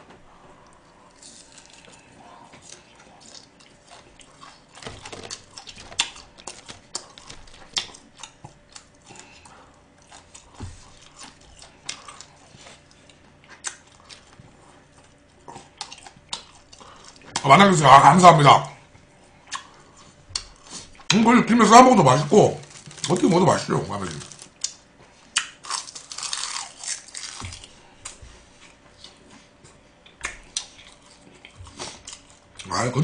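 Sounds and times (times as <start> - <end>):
close chewing: 0.6 - 17.5, 22.6 - 32.8.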